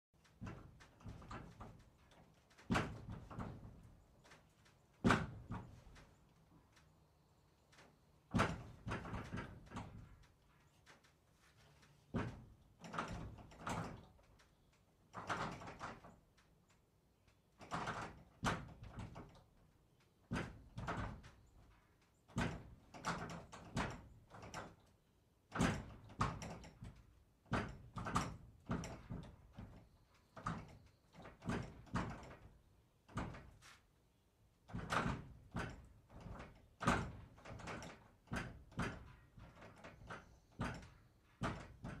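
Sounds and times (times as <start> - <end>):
barn door knocking and scraping: 0.2 - 6.6, 8.2 - 14.5, 15.1 - 16.4, 17.6 - 24.9, 25.5 - 33.8, 34.6 - 42.0.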